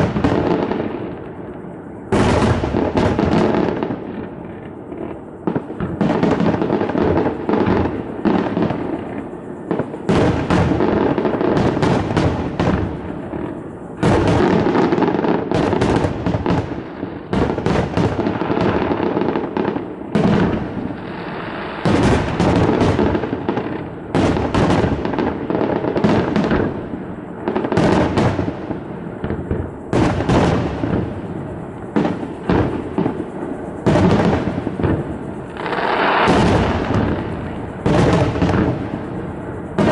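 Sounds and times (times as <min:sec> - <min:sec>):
fireworks crackle: 0:00.0 - 0:39.9.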